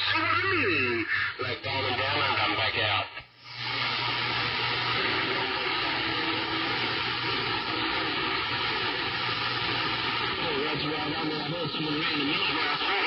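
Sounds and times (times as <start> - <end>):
faint thin radio tones: 0.0 - 13.0
radio static hiss: 0.0 - 13.0.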